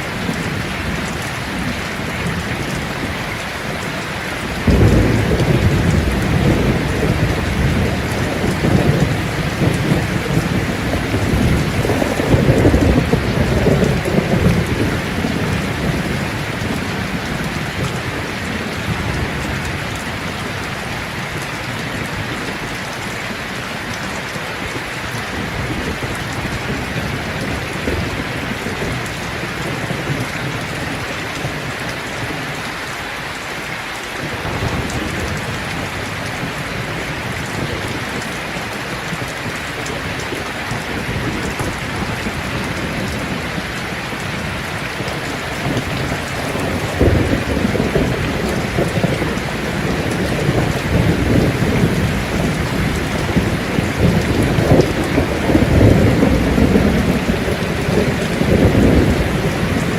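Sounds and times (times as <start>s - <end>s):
thunder rumbling: 0.0s - 32.5s, 34.2s - 59.9s
steady rain: 0.0s - 59.9s.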